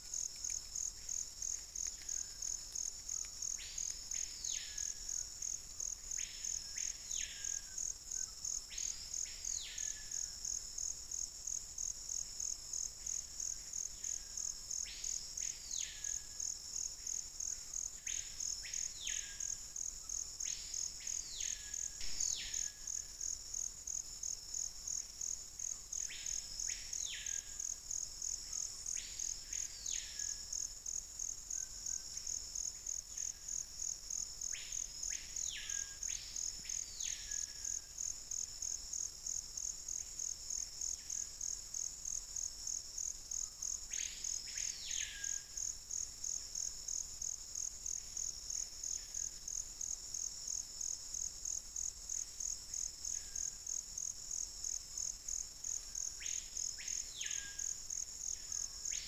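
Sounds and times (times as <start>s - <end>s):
insect trill: 0.0s - 59.0s.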